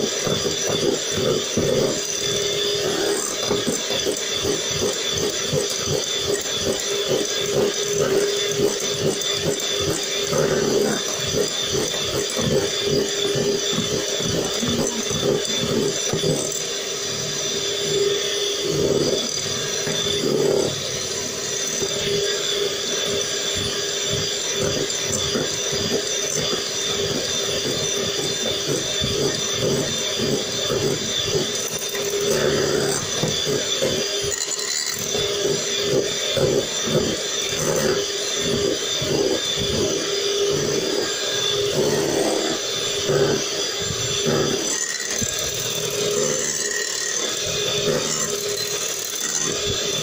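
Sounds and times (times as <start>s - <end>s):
electric hand mixer whine: 0.0s - 50.0s.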